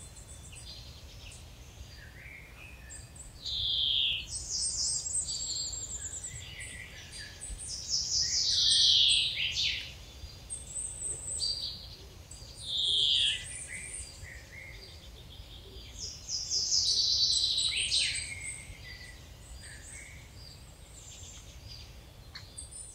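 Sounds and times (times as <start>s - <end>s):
songbirds singing: 0.0s - 22.9s.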